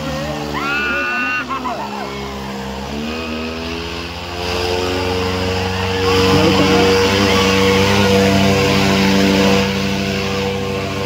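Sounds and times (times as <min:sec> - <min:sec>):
tractor engine revving under load: 0:00.0 - 0:11.0.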